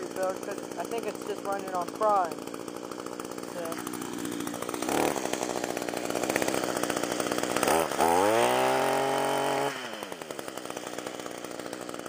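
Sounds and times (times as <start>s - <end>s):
trimmer engine idling and revving: 0.0s - 12.0s.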